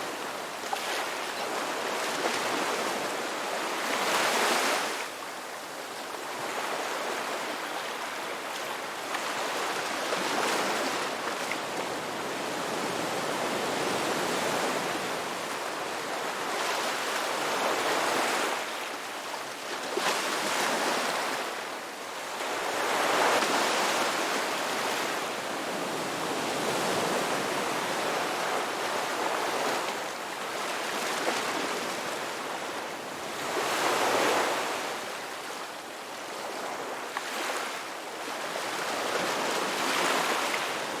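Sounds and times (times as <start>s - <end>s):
ocean waves breaking on beach: 0.0s - 41.0s.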